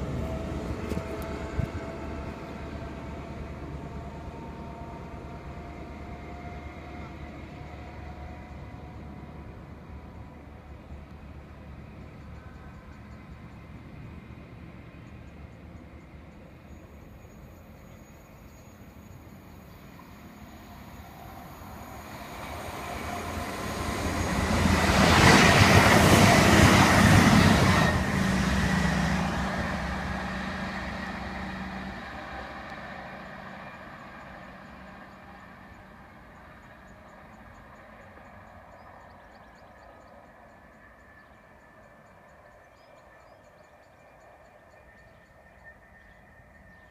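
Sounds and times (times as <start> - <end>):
diesel train passing: 0.0 - 46.9
train engine hum: 0.0 - 46.9.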